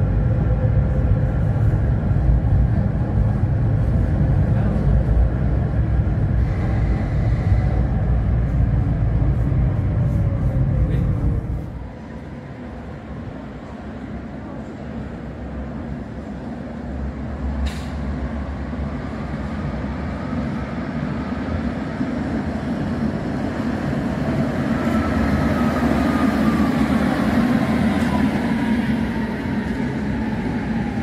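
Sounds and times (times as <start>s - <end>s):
tram rumbling on rails: 0.0s - 31.0s.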